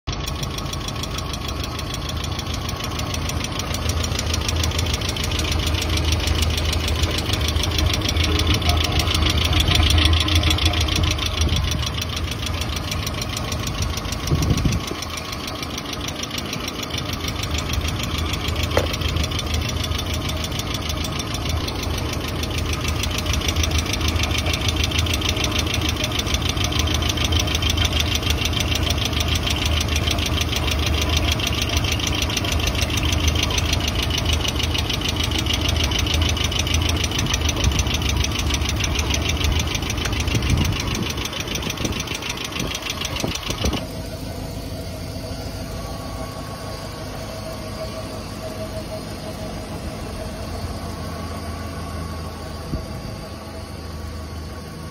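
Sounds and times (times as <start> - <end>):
car engine idling with ticking: 0.1 - 54.9.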